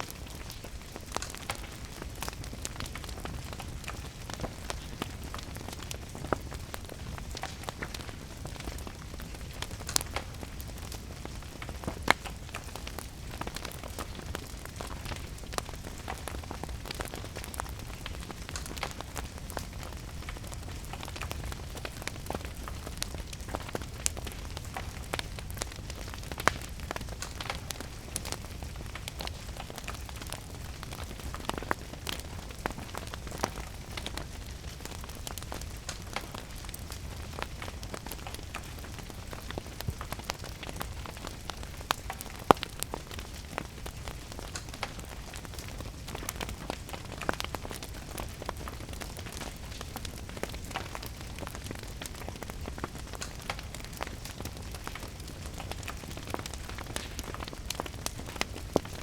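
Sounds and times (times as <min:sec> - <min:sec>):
steady rain hiss: 0:00.0 - 0:59.0
wood fire crackling and popping: 0:00.0 - 0:59.0.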